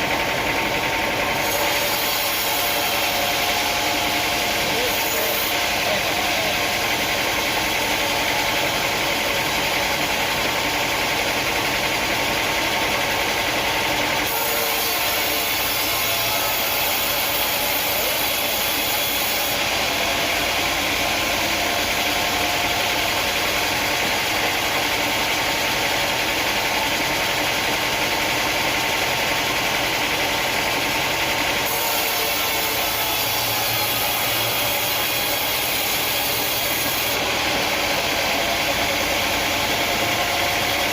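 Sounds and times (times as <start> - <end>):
sawmill machinery hissing: 0.0 - 40.9.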